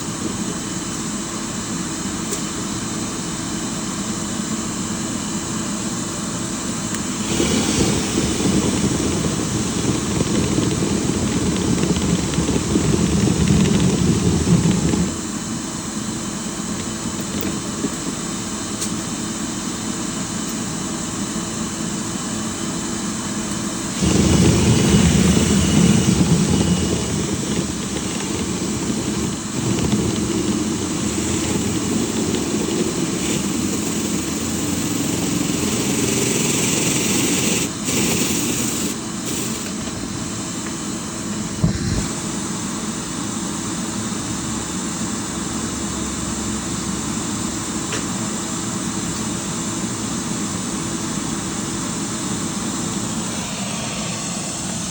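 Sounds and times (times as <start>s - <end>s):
dryer vent cleaning machine running: 0.0s - 54.9s.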